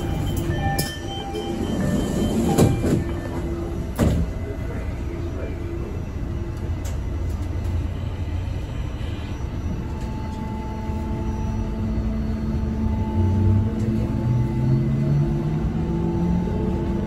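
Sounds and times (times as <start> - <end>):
rail car rumble: 0.0 - 17.0.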